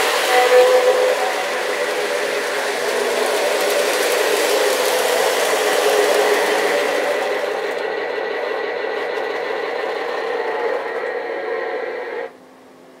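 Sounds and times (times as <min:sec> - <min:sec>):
model train rumble and motor hum: 0:00.0 - 0:12.4.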